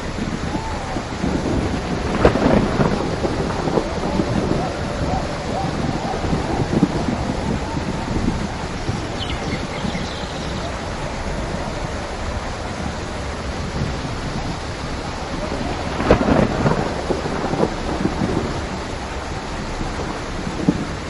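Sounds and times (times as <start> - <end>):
steady rain falling: 0.0 - 21.0
thunderclap rumbling: 0.0 - 21.0.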